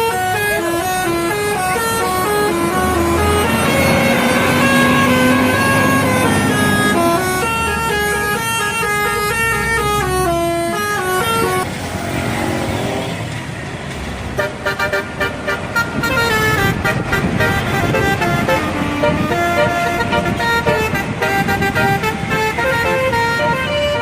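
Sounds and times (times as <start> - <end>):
musical bus horn: 0.0 - 11.7, 14.4 - 24.0
engine and traffic noise: 0.0 - 24.0.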